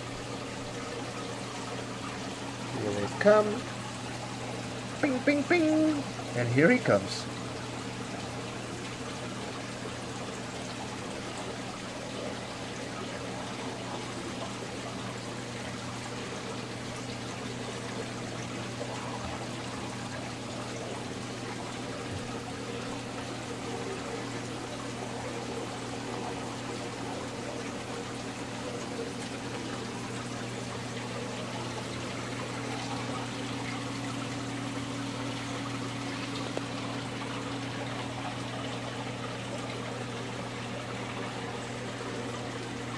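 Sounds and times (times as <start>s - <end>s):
pump humming: 0.0s - 42.9s
water trickling in aquarium: 0.0s - 42.9s.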